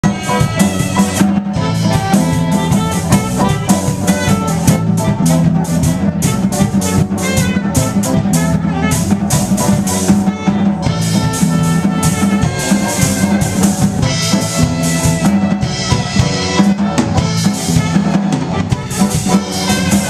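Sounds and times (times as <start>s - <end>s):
drum kit beat: 0.0s - 20.0s
electric guitar: 0.0s - 20.0s
saxophone: 0.0s - 20.0s.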